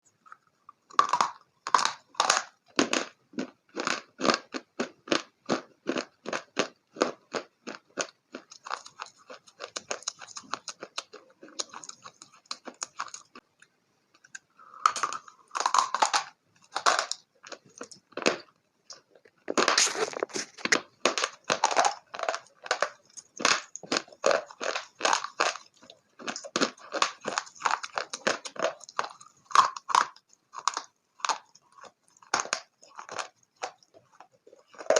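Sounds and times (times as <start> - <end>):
person chewing crunchy food: 0.1 - 34.9.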